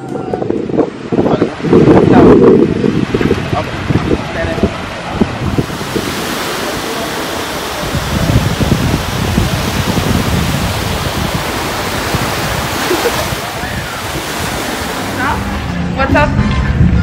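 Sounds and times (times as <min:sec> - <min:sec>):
wind rumbling on microphone: 0:00.0 - 0:17.0
surf breaking: 0:00.5 - 0:15.9.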